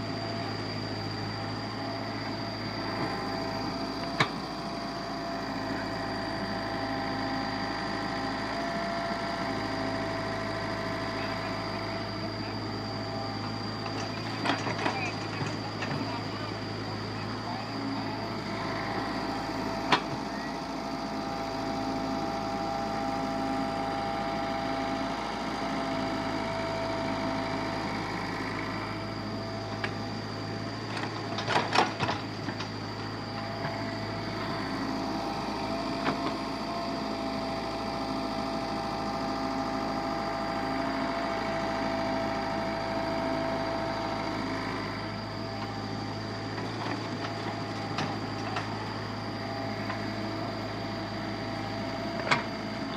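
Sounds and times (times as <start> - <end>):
machinery motors whining hum: 0.0 - 52.9.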